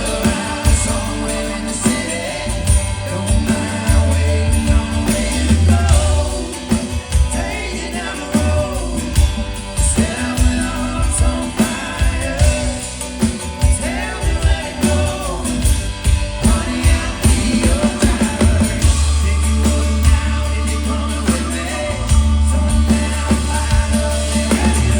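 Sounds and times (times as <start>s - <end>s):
heavy bass: 0.0s - 24.9s
person singing: 0.0s - 24.9s
rock band playing: 0.0s - 24.9s
steady drum beat: 0.0s - 24.9s.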